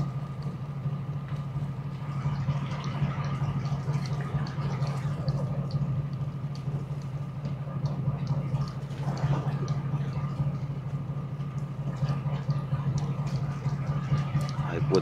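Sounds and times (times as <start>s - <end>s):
light irregular ticks: 0.0s - 1.7s, 2.4s - 15.0s
boat engine idling: 0.0s - 15.0s.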